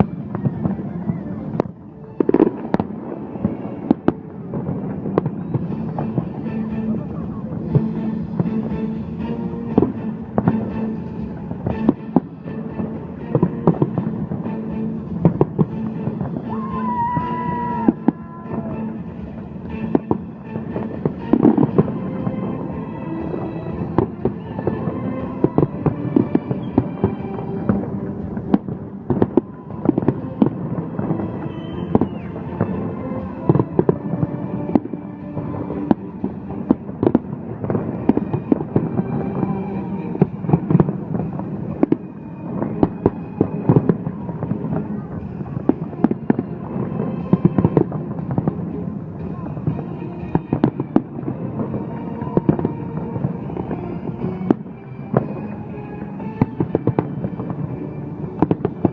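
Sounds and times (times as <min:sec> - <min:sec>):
background music: 0:00.0 - 0:58.9
fireworks bangs and crackles: 0:00.0 - 0:58.9.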